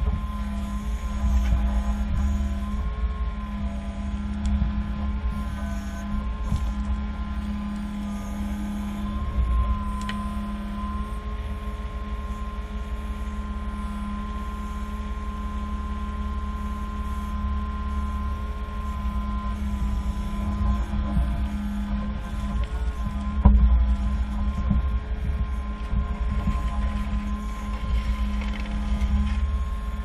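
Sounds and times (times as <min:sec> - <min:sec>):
vehicle engine rumbling: 0:00.0 - 0:15.2, 0:17.0 - 0:30.0.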